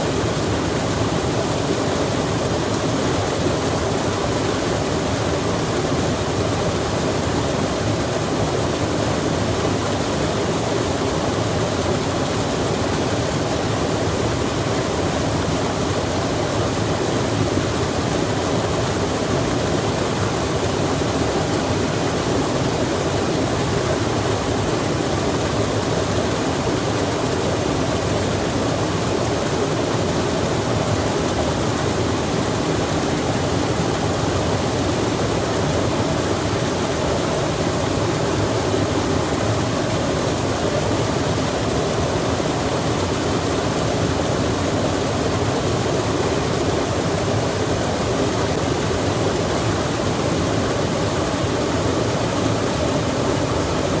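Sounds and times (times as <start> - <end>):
rushing running water: 0.0 - 54.0.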